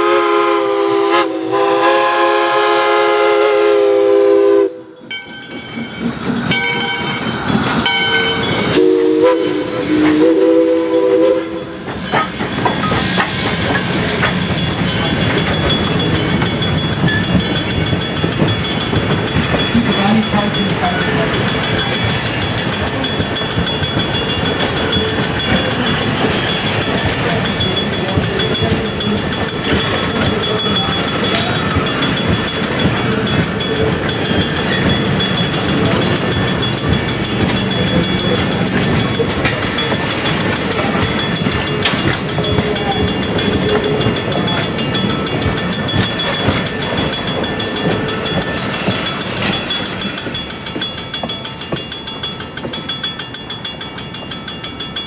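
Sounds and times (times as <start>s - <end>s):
crossing warning bell ringing: 0.0s - 55.0s
train wheels clattering on rails: 0.0s - 55.0s.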